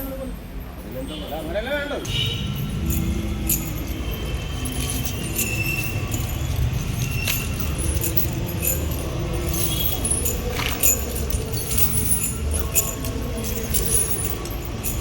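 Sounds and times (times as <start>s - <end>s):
low rumble: 2.1s - 15.0s
metallic jingling and clinking: 2.1s - 15.0s.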